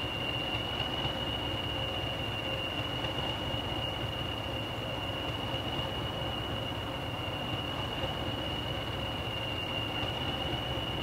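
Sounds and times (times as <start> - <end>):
high-pitched whine: 0.0 - 11.0
train rumbling: 0.0 - 11.0.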